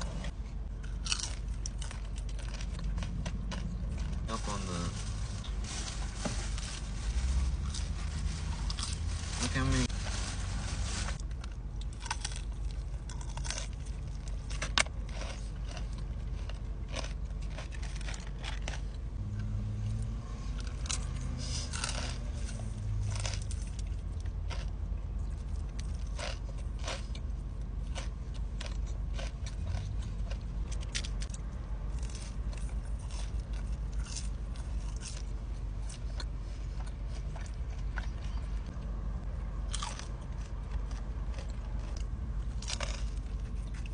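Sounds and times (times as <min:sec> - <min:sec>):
low rumble: 0:00.0 - 0:43.9
crunchy bites and chewing: 0:00.8 - 0:04.9, 0:08.6 - 0:09.1, 0:11.2 - 0:38.8, 0:39.6 - 0:43.9.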